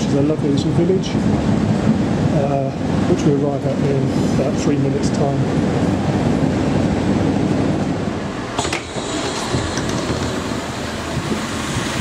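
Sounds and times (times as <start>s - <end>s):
train rumble and hiss: 0.0s - 12.0s.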